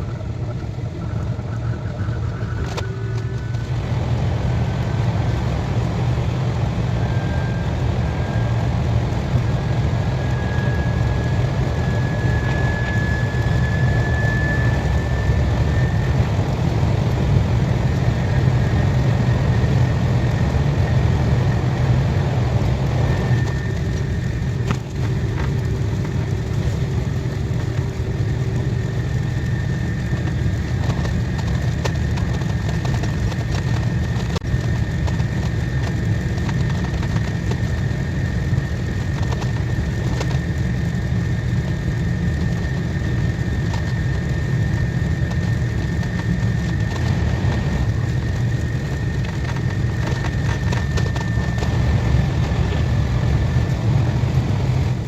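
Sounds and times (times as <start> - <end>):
faint whine: 0.0 - 55.0
train rumbling at speed: 0.0 - 55.0.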